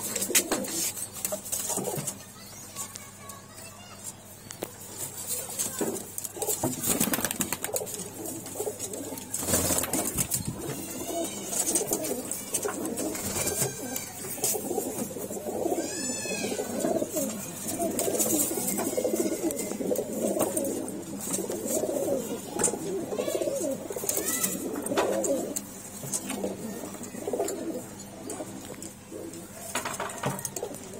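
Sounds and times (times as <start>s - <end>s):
pigeons cooing: 0.0s - 2.1s, 5.3s - 30.9s.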